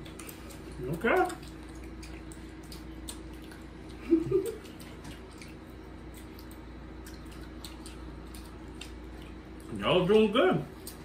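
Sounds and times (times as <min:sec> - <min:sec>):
gumballs being chewed: 0:00.0 - 0:09.8
steady low hum: 0:00.0 - 0:11.0.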